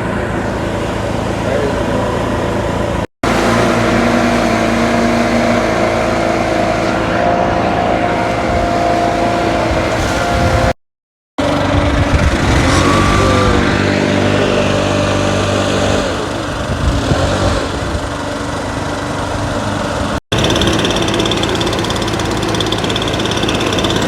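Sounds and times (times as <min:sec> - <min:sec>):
small gasoline engines running: 0:00.0 - 0:10.8, 0:11.4 - 0:24.0
whining engine note: 0:00.0 - 0:10.8, 0:11.4 - 0:24.0.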